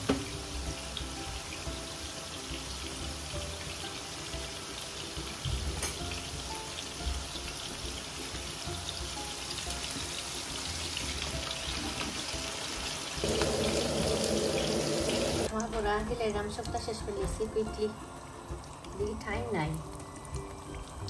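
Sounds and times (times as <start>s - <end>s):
background music: 0.0s - 21.0s
chips sizzling in hot oil: 0.0s - 21.0s.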